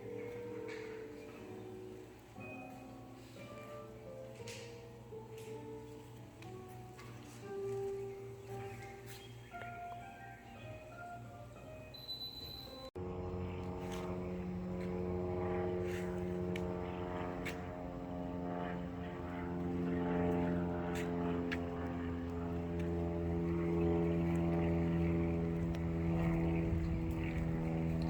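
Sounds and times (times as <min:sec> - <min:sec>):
low motor hum: 0:00.0 - 0:28.0.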